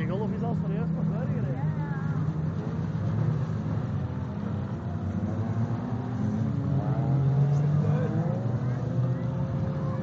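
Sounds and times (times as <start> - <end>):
car accelerating: 0.0 - 10.0
race car engines droning: 0.0 - 10.0.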